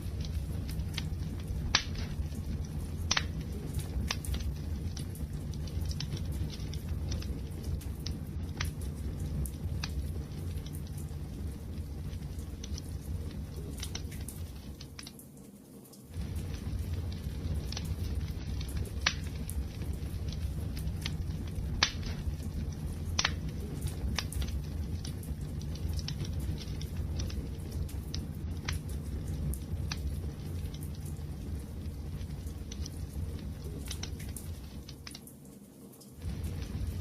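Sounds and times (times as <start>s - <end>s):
fire crackling and popping: 0.0s - 37.0s
fire rumbling: 0.0s - 37.0s.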